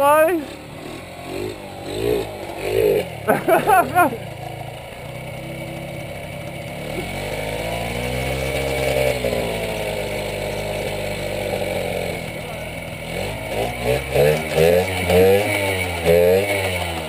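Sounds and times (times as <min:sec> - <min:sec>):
dirt bike engine idling and revving: 0:00.0 - 0:17.0.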